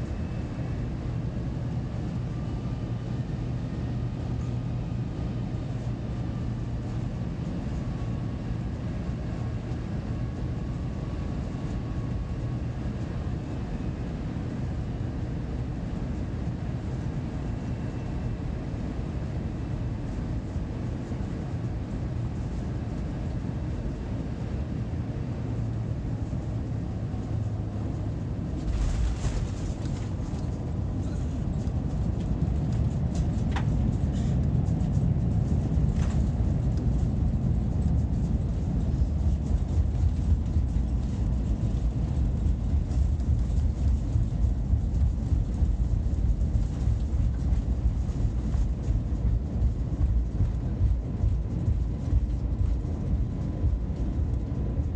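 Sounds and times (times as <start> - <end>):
airliner rumble: 0.0 - 54.9.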